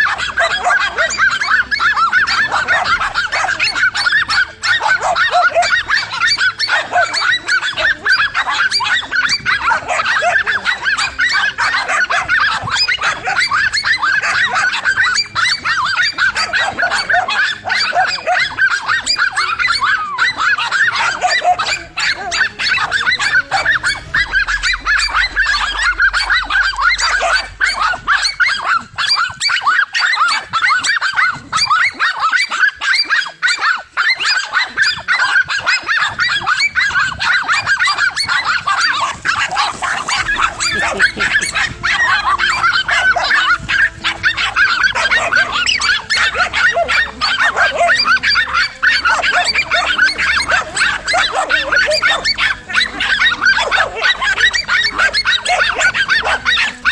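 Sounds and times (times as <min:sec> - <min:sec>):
dogs barking and yapping: 0:00.0 - 0:56.9.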